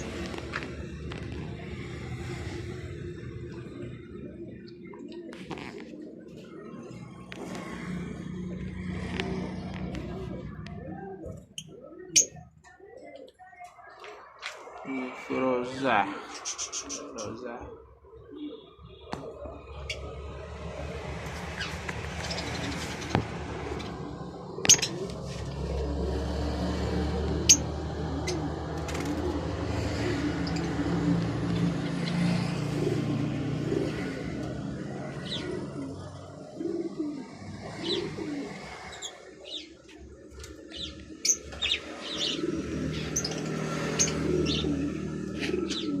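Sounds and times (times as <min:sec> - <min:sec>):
doves cooing: 0:00.0 - 0:46.0.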